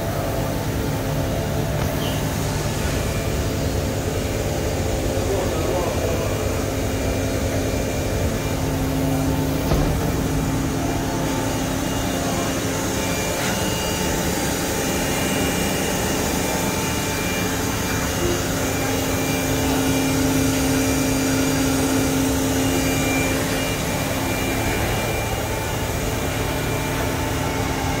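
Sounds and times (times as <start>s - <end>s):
machine whir and hum: 0.0s - 28.0s
machine whining tones: 0.1s - 28.0s.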